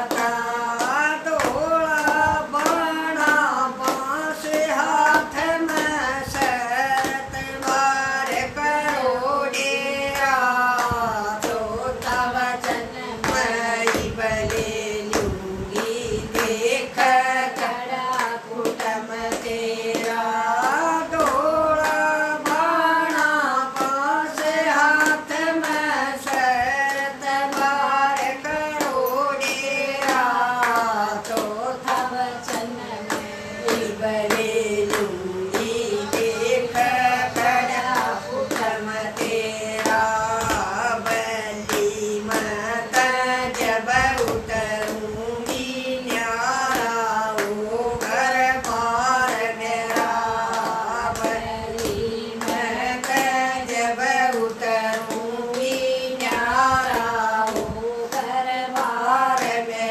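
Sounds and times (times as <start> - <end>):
hand claps: 0.0 - 59.9
women singing devotional song: 0.0 - 59.9.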